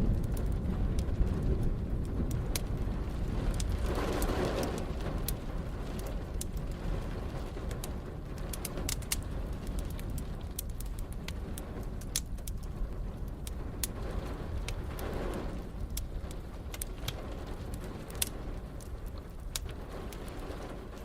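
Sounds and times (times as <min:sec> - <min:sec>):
low rumble: 0:00.0 - 0:21.0
wood fire crackling: 0:00.0 - 0:21.0.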